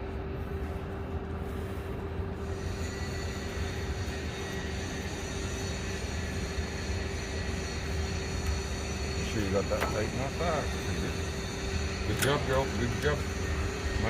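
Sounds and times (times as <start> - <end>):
high whine: 0.0 - 14.0.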